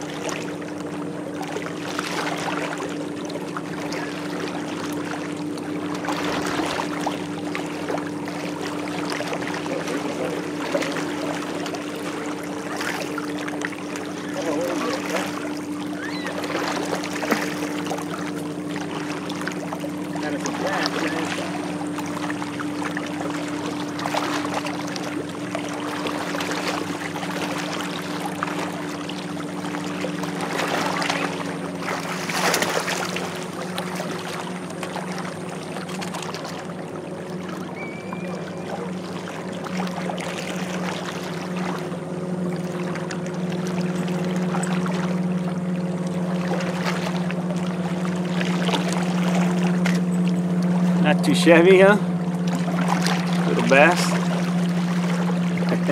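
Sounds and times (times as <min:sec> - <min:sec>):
motorboat engine humming: 0:00.0 - 0:55.9
wind and water wash: 0:00.0 - 0:55.9.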